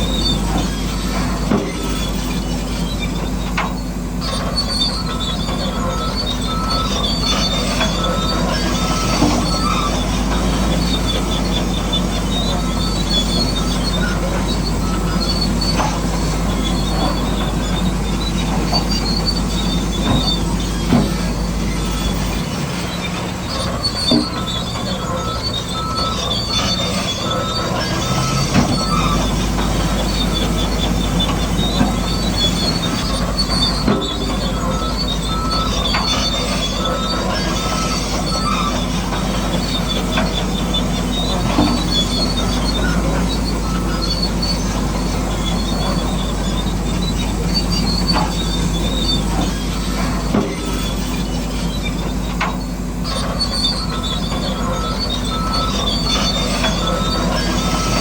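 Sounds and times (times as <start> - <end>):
electric motors whining: 0.0 - 58.0
high-pitched squeaks: 0.0 - 58.0.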